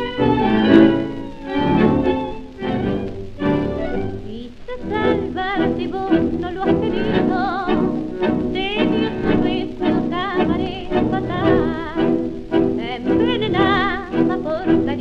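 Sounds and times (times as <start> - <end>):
old tango orchestra recording: 0.0 - 15.0.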